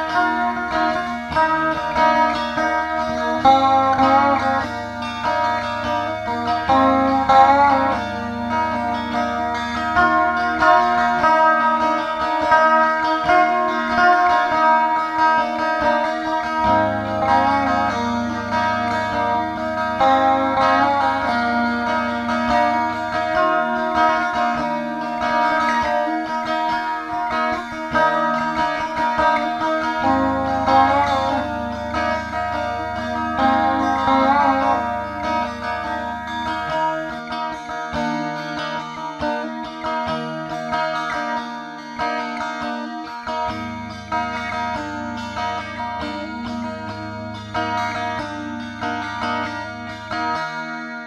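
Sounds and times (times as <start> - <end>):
guitar-led music: 0.0 - 51.0.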